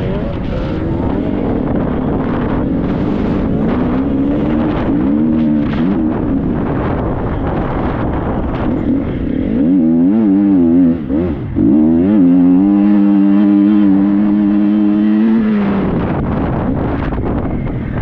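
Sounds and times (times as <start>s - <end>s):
motocross bike engine revving: 0.0s - 16.6s.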